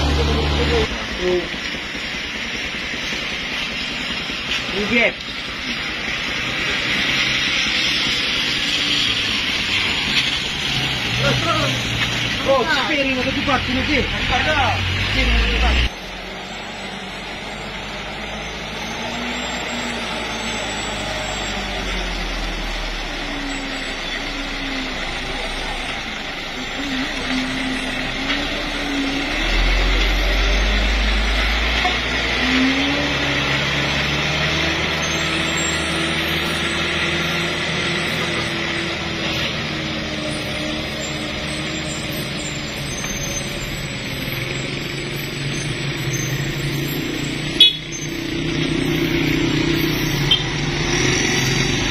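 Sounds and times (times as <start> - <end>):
diesel truck engine running: 0.0 - 51.9
motorcycles approaching: 0.0 - 51.9.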